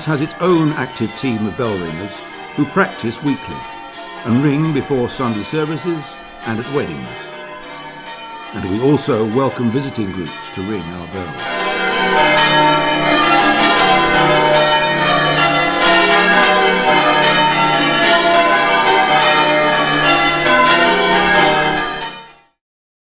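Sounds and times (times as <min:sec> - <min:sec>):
church bells pealing: 0:00.0 - 0:22.5.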